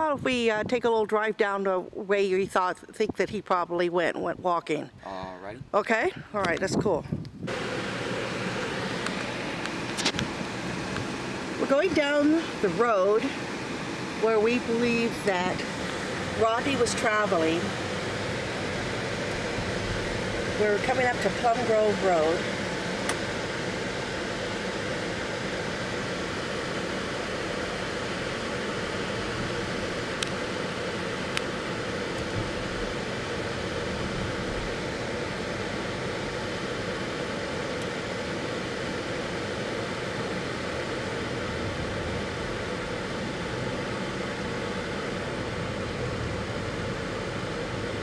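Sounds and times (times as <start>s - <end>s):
car road and engine noise: 7.4s - 48.0s.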